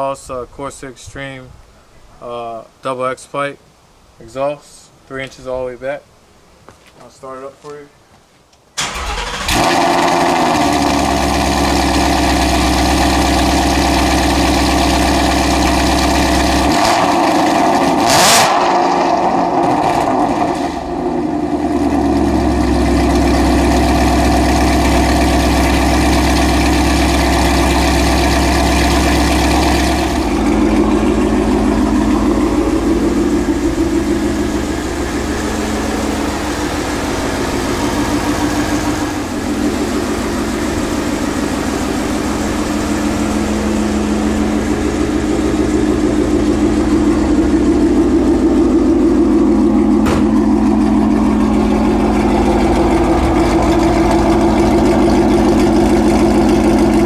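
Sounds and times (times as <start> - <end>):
car engine starting and idling: 8.7 - 57.0.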